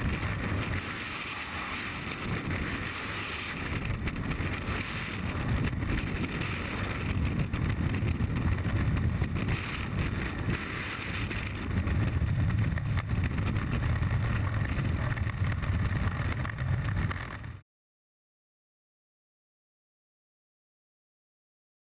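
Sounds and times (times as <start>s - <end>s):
wind rushing over microphone: 0.0s - 17.6s.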